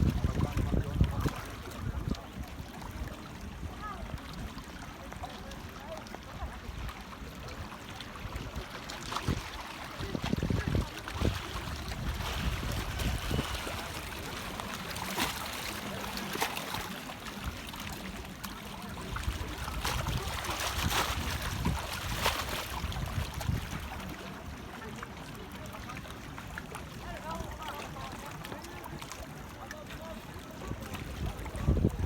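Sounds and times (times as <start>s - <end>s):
sea water splashing and lapping: 0.0s - 32.0s.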